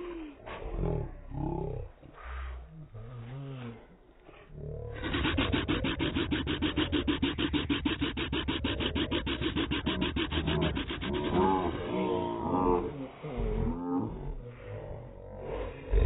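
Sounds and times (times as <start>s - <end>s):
slowed mouth sound pulses: 0.0s - 16.0s.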